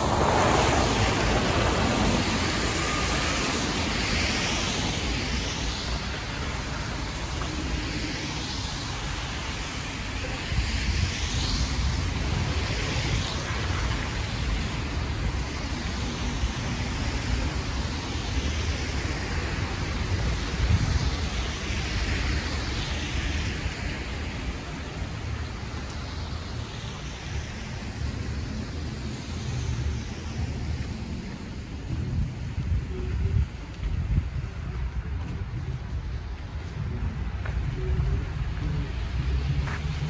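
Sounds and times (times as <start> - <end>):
low traffic rumble: 0.0 - 40.0
tyres hissing on wet road: 0.0 - 40.0.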